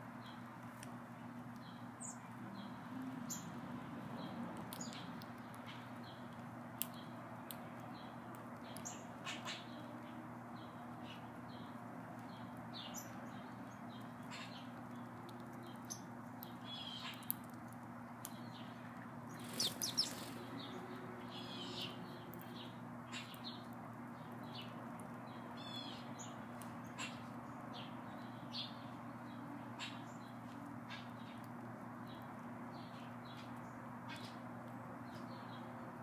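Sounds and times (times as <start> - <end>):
sparrows chirping: 0.1 - 36.0.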